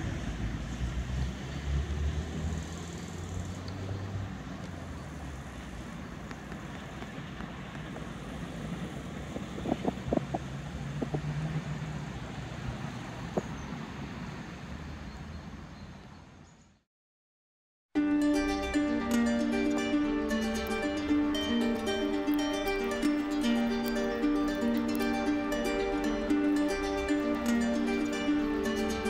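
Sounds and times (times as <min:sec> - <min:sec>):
distant road traffic hum: 0:00.0 - 0:16.8, 0:18.0 - 0:29.0.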